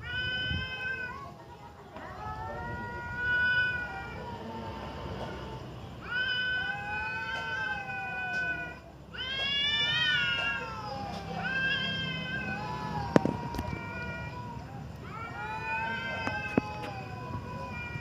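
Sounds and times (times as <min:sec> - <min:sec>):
cats yowling: 0:00.0 - 0:18.0.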